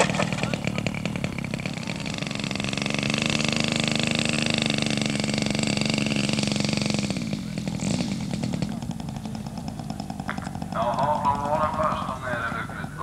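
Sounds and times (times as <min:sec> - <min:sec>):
model aircraft engine running: 0:00.0 - 0:13.0.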